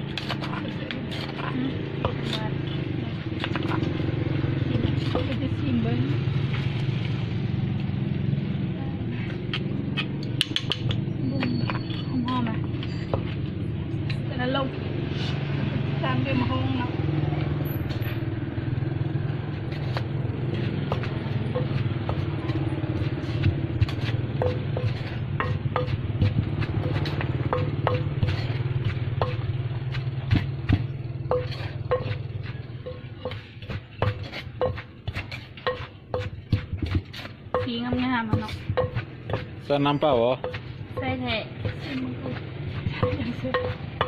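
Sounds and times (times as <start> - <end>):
wooden pestle pounding in mortar: 0.0 - 7.5, 9.3 - 13.7, 17.1 - 44.0.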